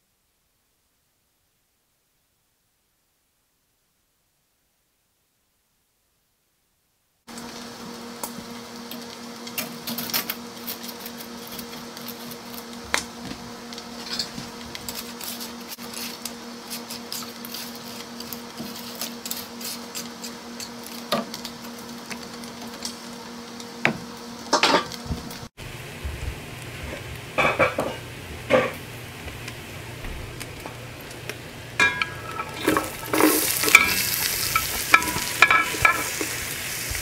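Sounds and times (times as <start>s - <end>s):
stovetop hum and hiss: 0.0s - 37.0s.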